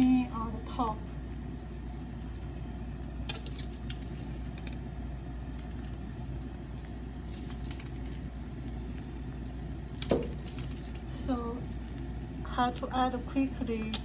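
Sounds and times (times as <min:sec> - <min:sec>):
egg and sausage sizzling: 0:00.0 - 0:14.0
steady low hum: 0:00.0 - 0:14.0.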